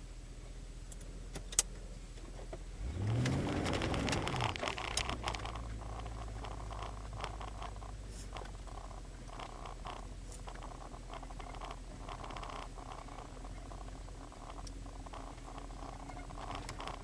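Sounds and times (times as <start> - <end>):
car engine revving: 1.8 - 17.0.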